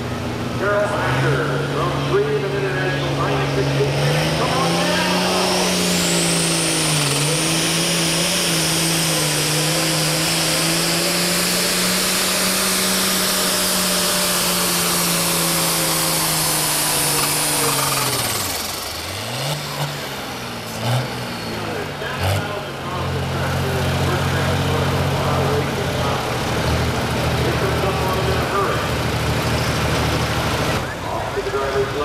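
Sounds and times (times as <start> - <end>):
diesel tractor engine under load: 0.0 - 32.0
engine throttle blips: 0.0 - 32.0
high turbo whine: 0.0 - 32.0.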